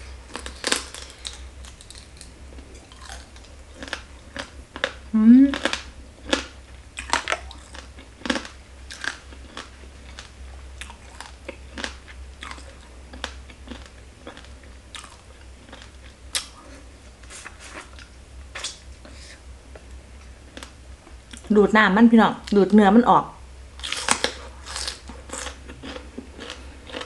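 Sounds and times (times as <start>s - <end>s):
steady low hum: 0.0s - 27.0s
wet chewing and crunching: 0.3s - 18.8s, 23.8s - 27.0s.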